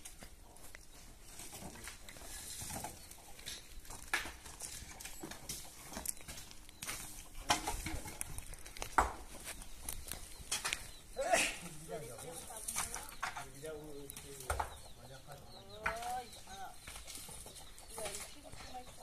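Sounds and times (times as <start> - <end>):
dry branches rustling: 0.0 - 19.0
footsteps on stony ground: 0.0 - 19.0.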